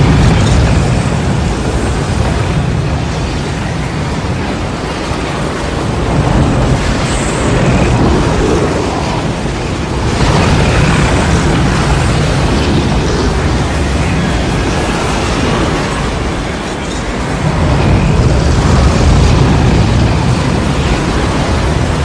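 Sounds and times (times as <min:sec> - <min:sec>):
deep rumble: 0:00.0 - 0:22.0
rushing tornado wind: 0:00.0 - 0:22.0.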